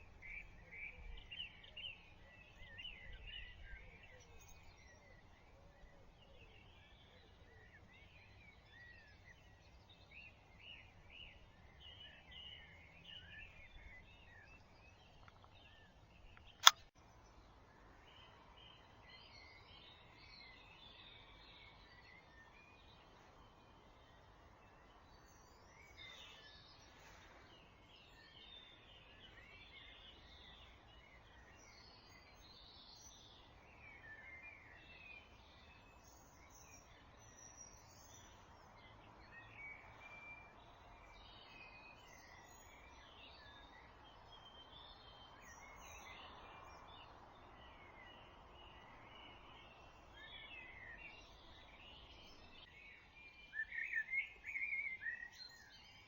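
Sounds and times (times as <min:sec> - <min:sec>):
low steady background noise: 0:00.0 - 0:56.0
songbirds singing: 0:00.0 - 0:56.0.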